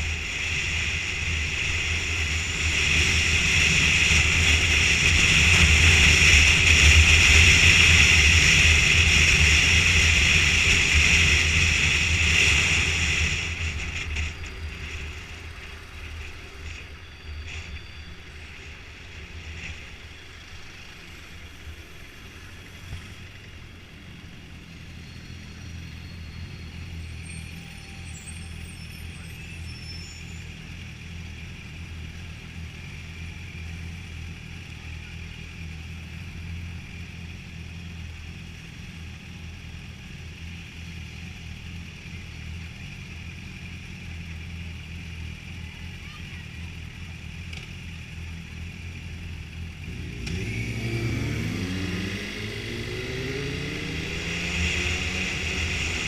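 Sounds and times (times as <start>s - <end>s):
motorcycle engine running: 0.0s - 27.2s, 30.3s - 56.0s.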